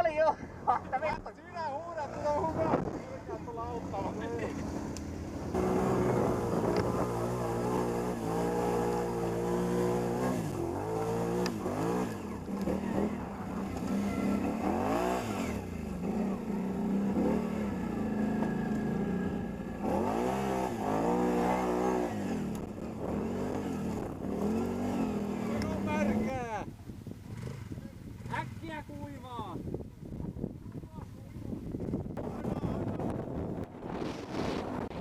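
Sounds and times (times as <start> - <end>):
atv engine revving: 1.8 - 29.9.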